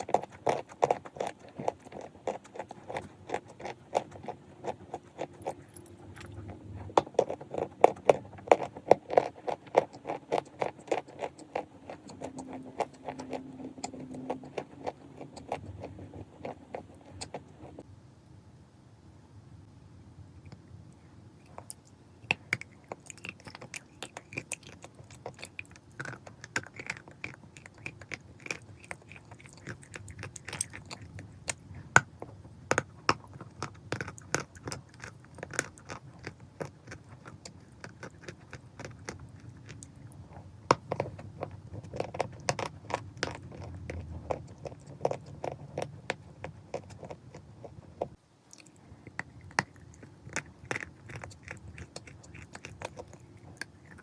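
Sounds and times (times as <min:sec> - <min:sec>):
chalk crunching when chewed: 0:00.0 - 0:17.8, 0:21.4 - 0:54.0.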